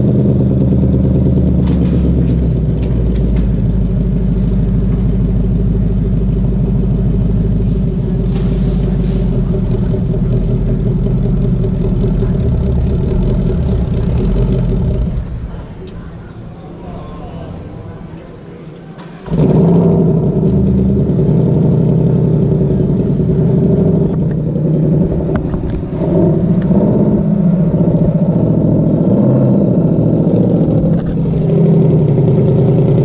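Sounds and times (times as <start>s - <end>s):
loud car exhaust: 0.0s - 33.0s.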